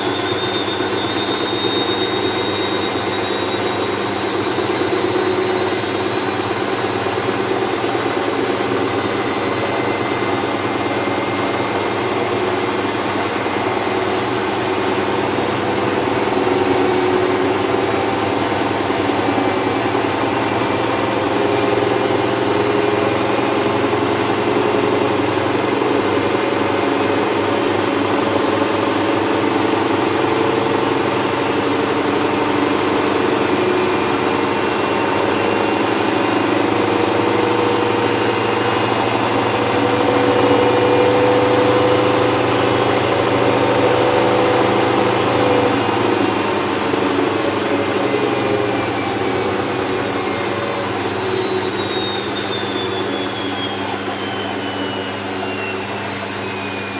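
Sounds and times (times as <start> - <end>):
high motor whine: 0.0 - 56.9
washer-dryer running: 0.0 - 56.9.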